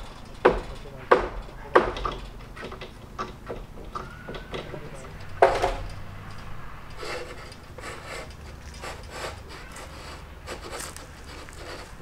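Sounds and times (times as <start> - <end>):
wood scraping and knocking: 0.0 - 12.0.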